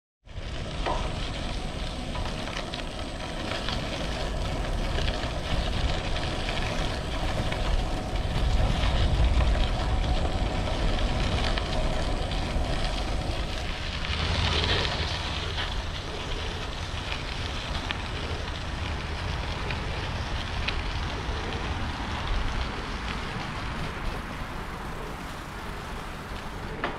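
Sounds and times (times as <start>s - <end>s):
bicycle tyres crunching on gravel: 0.2s - 26.9s
wind rumbling on microphone: 0.2s - 26.9s.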